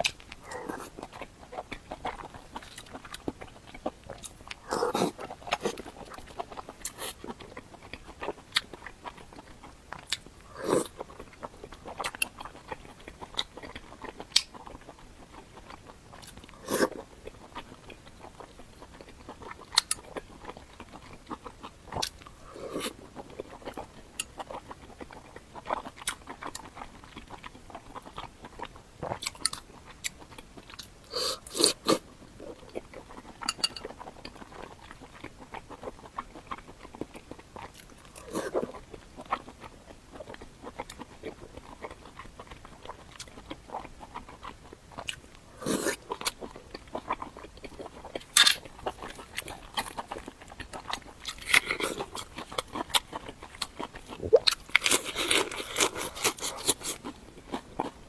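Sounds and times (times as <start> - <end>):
close chewing and mouth clicks: 0.0 - 58.0.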